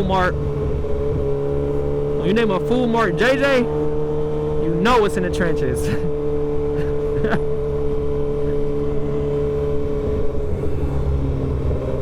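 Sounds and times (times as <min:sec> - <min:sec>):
motorcycle engine running: 0:00.0 - 0:12.0
wind and road rumble: 0:00.0 - 0:12.0.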